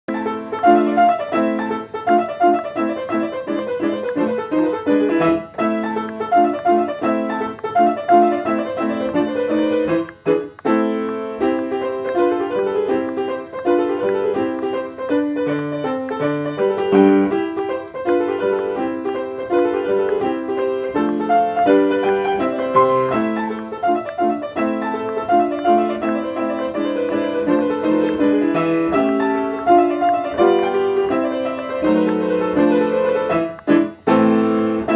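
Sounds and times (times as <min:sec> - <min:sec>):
piano playing quick notes: 0:00.1 - 0:34.9.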